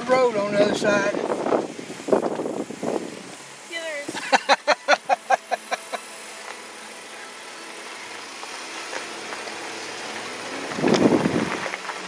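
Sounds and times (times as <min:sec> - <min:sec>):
engine running: 0:00.0 - 0:12.0
tyres on gravel: 0:00.0 - 0:12.0.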